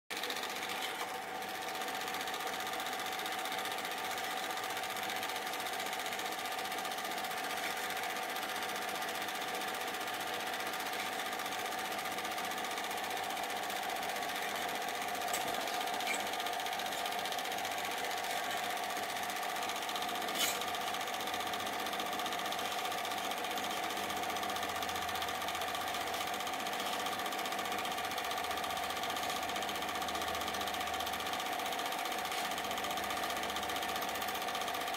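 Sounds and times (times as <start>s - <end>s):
film projector whirring: 0.1s - 34.9s.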